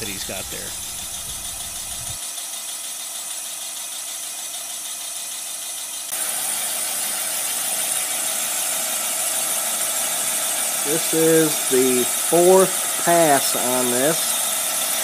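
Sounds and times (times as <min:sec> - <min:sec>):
boring bar cutting metal: 0:00.0 - 0:02.2, 0:04.8 - 0:15.0.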